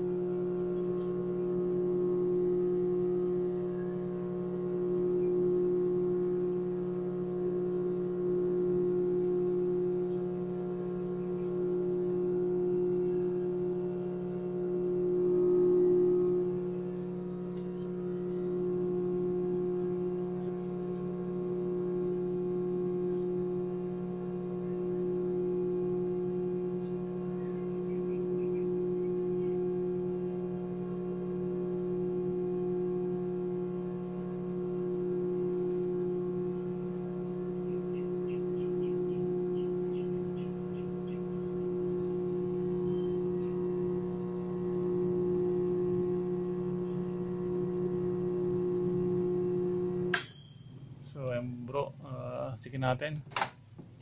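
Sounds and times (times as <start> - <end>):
microwave oven humming: 0.0 - 54.0.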